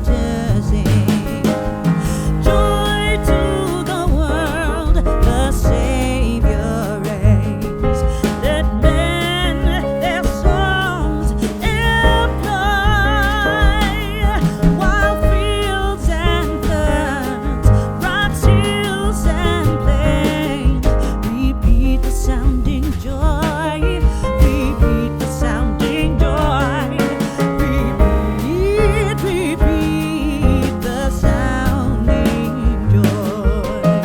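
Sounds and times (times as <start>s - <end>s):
song with singing and bass: 0.0s - 34.0s.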